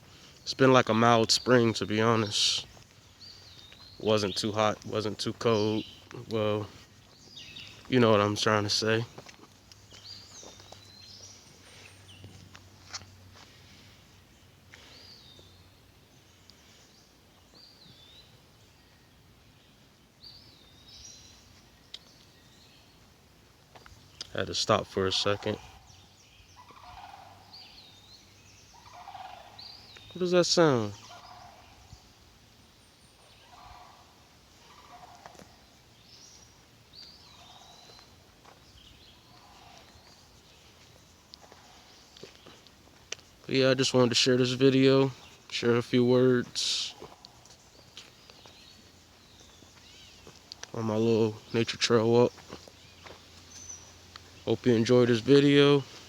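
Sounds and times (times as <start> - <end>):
rough bird calls: 0.0 - 18.9, 23.8 - 32.2, 32.8 - 56.0.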